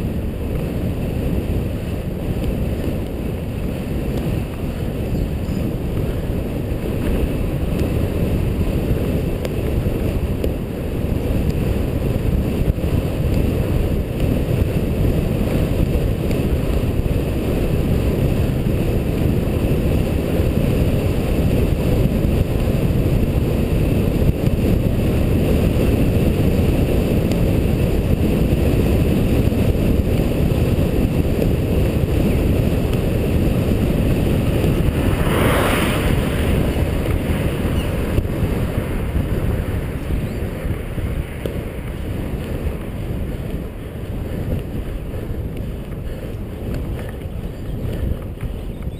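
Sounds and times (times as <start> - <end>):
vehicle running noise: 0.0 - 48.9
wind buffeting microphone: 0.0 - 48.9.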